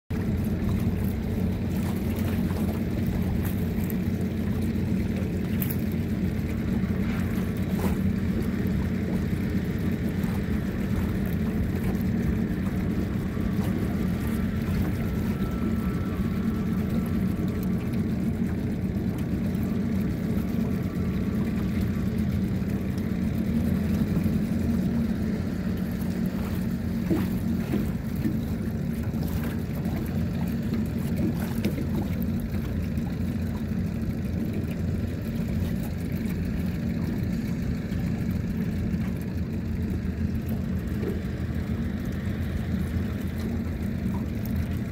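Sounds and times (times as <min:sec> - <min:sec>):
boat engine droning: 0:00.1 - 0:44.9
water noise: 0:00.1 - 0:44.9.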